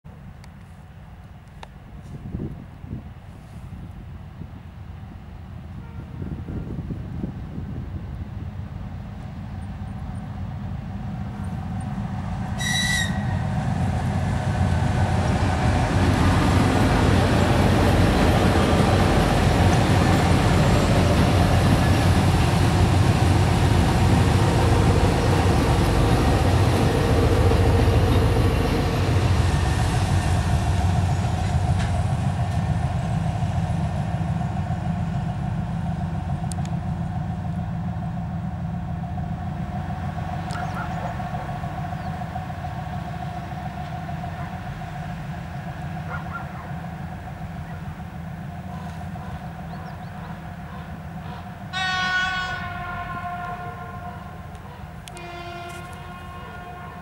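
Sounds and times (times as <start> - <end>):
diesel locomotives droning: 0.1 - 57.0.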